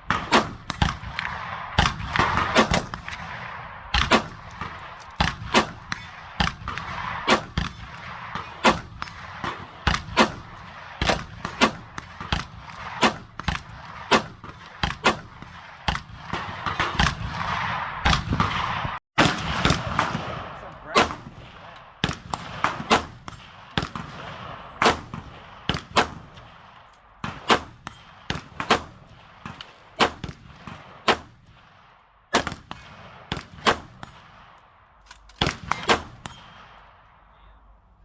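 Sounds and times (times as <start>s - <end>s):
rifle shots with echo: 0.0s - 37.8s.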